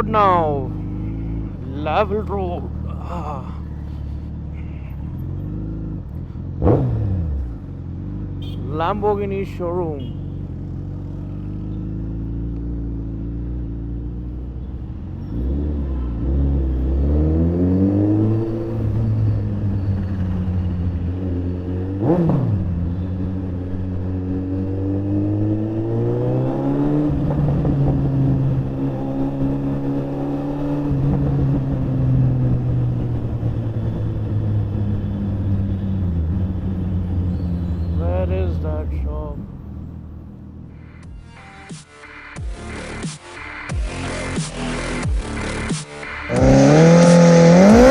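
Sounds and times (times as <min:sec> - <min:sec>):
motorcycle engine accelerating: 0:00.0 - 0:08.6, 0:10.2 - 0:41.2, 0:42.4 - 0:47.9.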